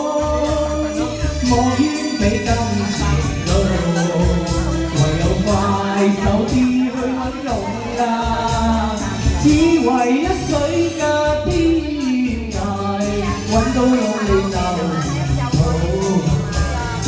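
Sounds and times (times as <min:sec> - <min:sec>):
karaoke backing track: 0:00.0 - 0:17.0
man singing into microphone: 0:00.0 - 0:17.0.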